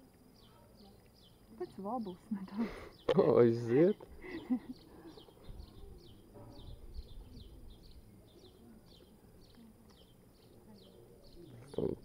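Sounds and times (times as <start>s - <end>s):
small bird chirping: 0.2s - 12.0s.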